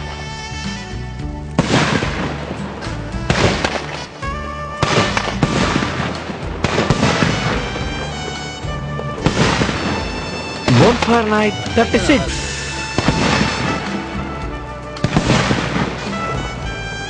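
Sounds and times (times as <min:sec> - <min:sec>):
background music: 0:00.0 - 0:17.0
fireworks bursting: 0:01.5 - 0:17.0.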